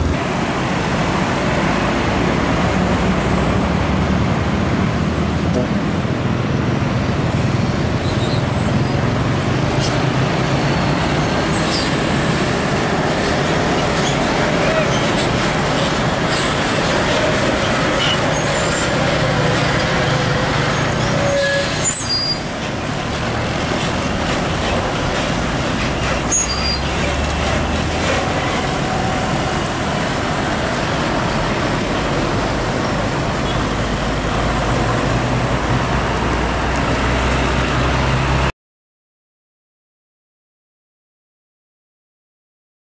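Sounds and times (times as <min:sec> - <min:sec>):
diesel truck engines rumbling: 0:00.0 - 0:38.5
road noise: 0:00.0 - 0:38.5.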